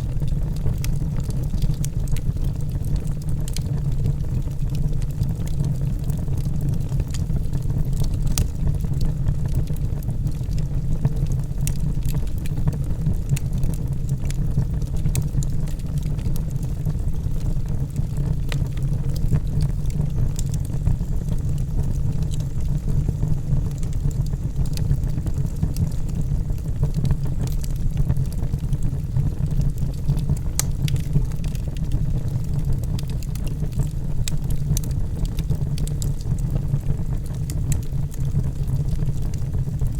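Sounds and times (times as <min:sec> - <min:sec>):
fire crackles and pops: 0:00.0 - 0:39.9
fire low rumble: 0:00.0 - 0:39.9.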